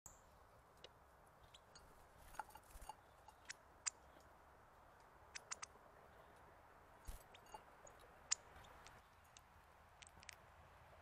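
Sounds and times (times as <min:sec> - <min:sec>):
birds cracking seeds: 0:00.7 - 0:10.5.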